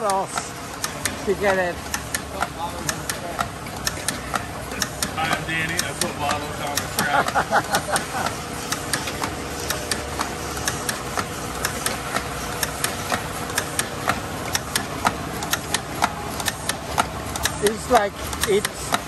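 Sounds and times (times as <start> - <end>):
machine hum with faint tone: 0.0 - 19.0.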